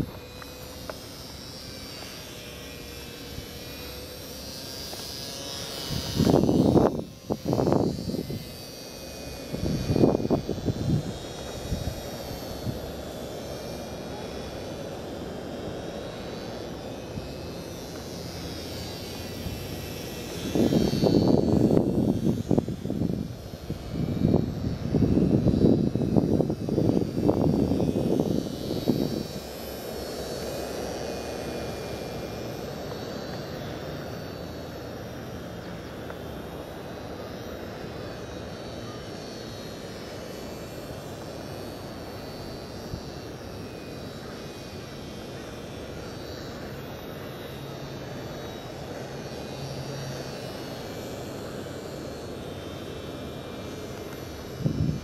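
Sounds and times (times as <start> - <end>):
model aircraft motor whine: 0.0 - 55.0.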